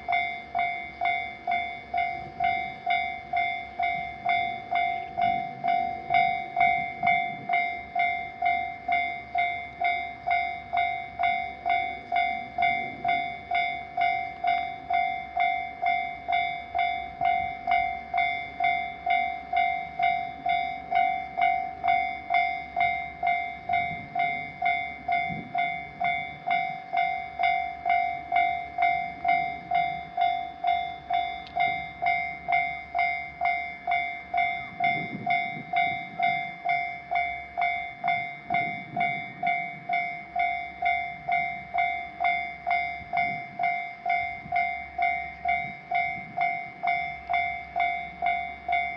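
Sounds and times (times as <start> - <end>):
railroad crossing bell ringing: 0.0 - 48.9.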